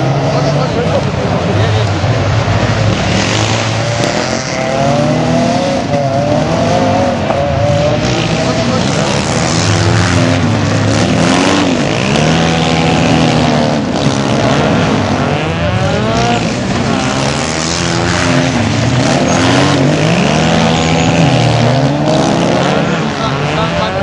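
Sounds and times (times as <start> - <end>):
quad bike engine revving: 0.0 - 24.0
rally car engines revving: 0.0 - 24.0.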